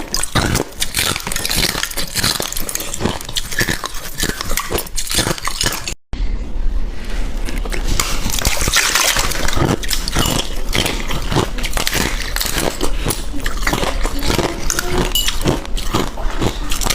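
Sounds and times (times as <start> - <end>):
crunching ice in mouth: 0.0 - 6.0, 7.5 - 16.9
wet mouth sounds: 0.0 - 6.0, 7.3 - 16.9.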